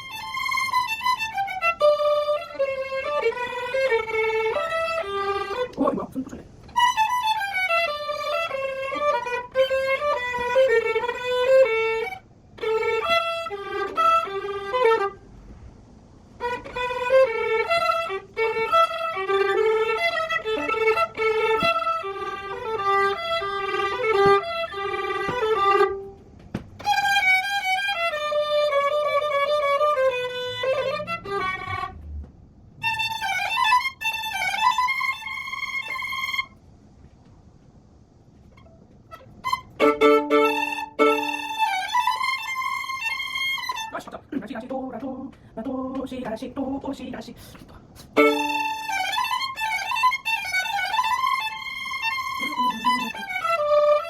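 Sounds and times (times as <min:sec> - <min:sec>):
solo violin bowed notes: 0:00.0 - 0:15.6, 0:16.3 - 0:36.6, 0:38.4 - 0:45.3, 0:48.0 - 0:54.0.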